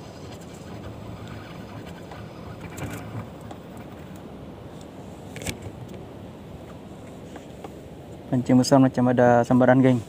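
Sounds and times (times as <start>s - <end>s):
boat engine rumble and wash: 0.0s - 10.0s.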